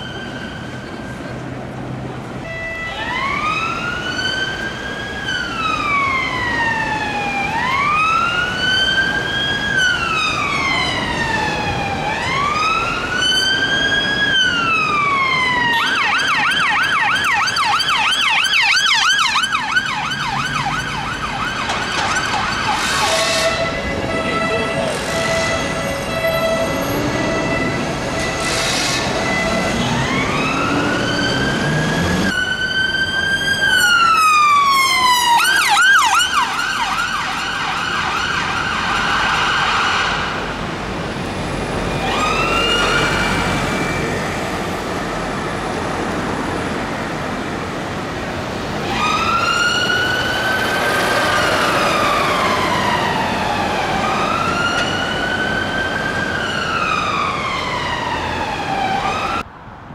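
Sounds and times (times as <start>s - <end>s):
road traffic noise: 0.0s - 59.9s
emergency siren wailing and yelping: 2.4s - 40.5s, 41.8s - 59.5s.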